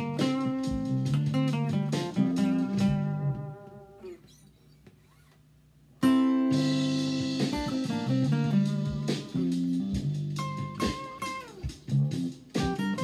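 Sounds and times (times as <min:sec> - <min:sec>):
acoustic guitar picked notes: 0:00.0 - 0:05.2, 0:06.0 - 0:13.0.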